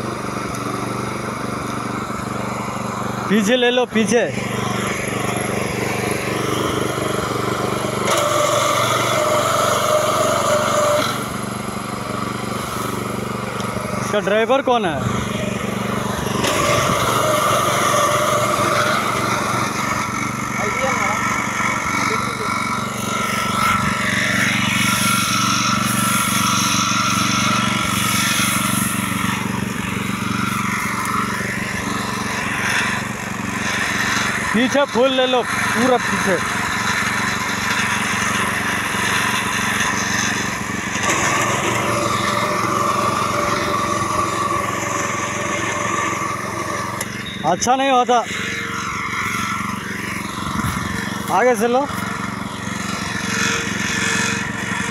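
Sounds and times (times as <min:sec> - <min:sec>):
small petrol engine running: 0:00.0 - 0:54.9.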